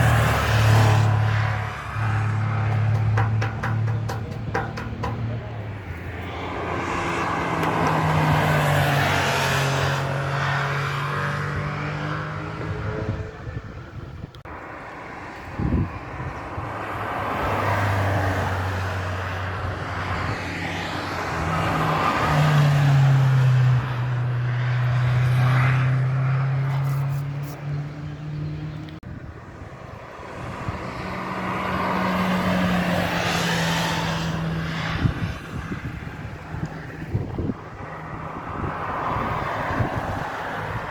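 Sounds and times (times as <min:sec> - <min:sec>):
racing cars passing at full throttle: 0:00.0 - 0:40.9.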